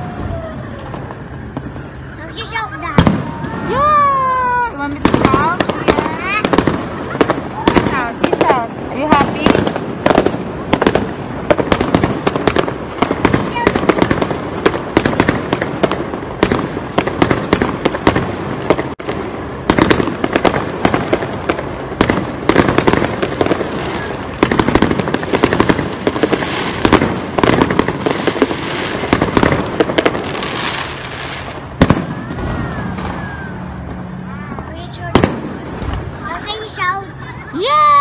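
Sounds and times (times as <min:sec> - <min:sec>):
fireworks bangs and crackling: 0:00.0 - 0:38.0.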